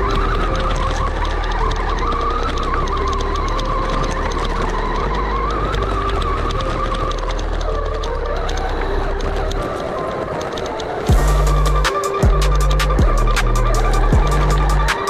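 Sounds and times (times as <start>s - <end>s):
background music with held notes: 0.0s - 15.0s
tyres and chassis ticking: 0.0s - 15.0s.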